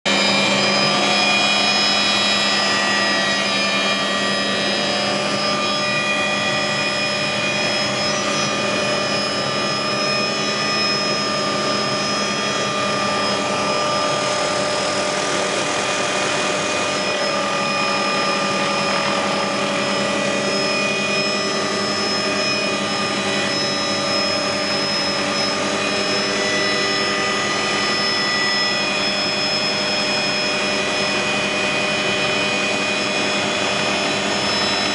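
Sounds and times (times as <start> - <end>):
helicopter engine and rotors: 0.0 - 34.9
rush of noise: 0.1 - 34.9
whining tones: 0.1 - 34.9.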